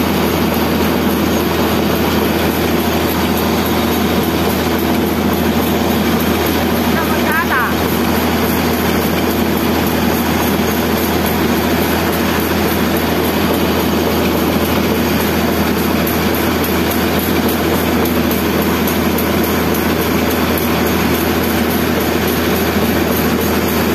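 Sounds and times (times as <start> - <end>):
low machine hum: 0.0 - 23.9.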